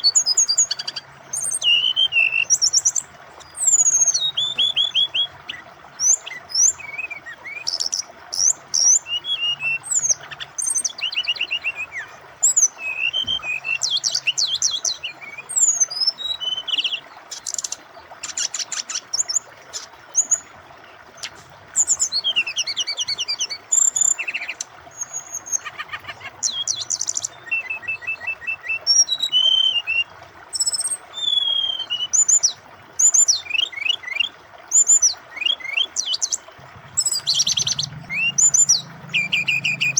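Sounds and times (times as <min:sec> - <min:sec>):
bird singing whistles and trills: 0:00.0 - 0:20.5, 0:21.2 - 0:39.9
flowing water rushing: 0:00.0 - 0:39.9.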